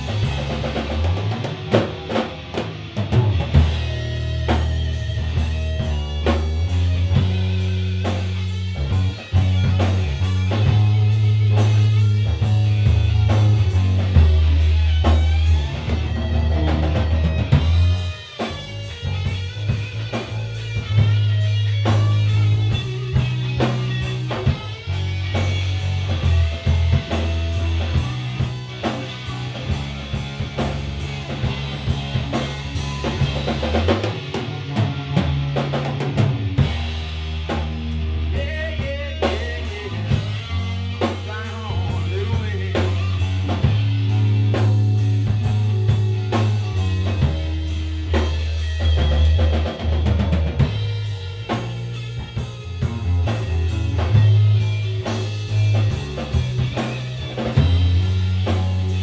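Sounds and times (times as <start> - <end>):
drum kit steady beat: 0.0 - 59.0
electric guitar: 0.0 - 59.0
loud bass line: 0.0 - 59.0.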